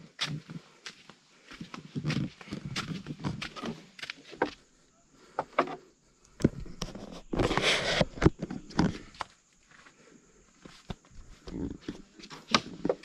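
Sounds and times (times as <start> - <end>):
footsteps on gritty stone path: 0.0 - 5.4, 6.6 - 13.0.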